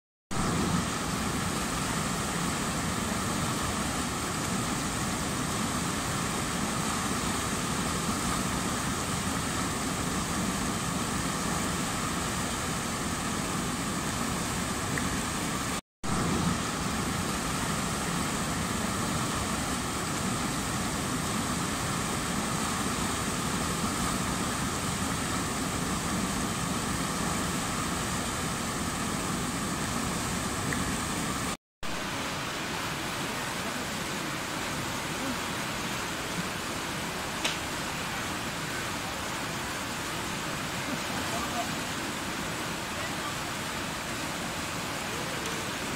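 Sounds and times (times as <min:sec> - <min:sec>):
whitewater rapids rushing: 0:00.4 - 0:45.9.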